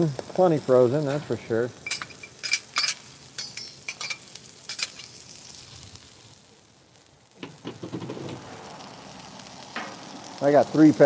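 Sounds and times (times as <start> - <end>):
sharp pops and crackles: 0.0 - 11.0
vegetables sizzling on a griddle: 0.0 - 11.0.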